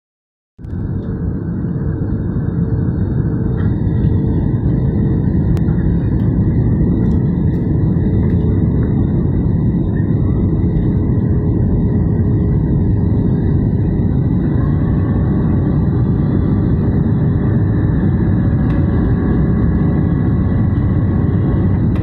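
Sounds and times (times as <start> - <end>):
airflow along fuselage: 0.6 - 22.0
faint steady hum: 0.6 - 22.0
jet engine cabin rumble: 0.6 - 22.0.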